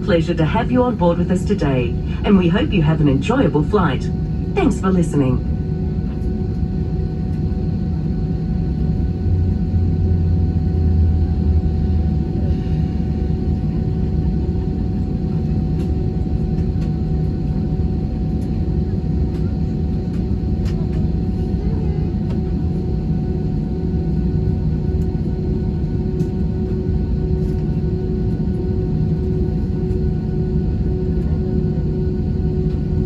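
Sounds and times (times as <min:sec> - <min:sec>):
aircraft cabin rumble and whine: 0:00.0 - 0:33.0.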